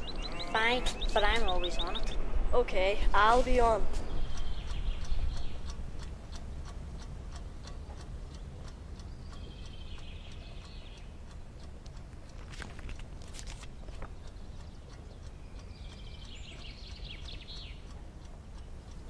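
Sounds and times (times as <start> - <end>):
clock ticking: 0.0 - 2.3, 3.2 - 19.0.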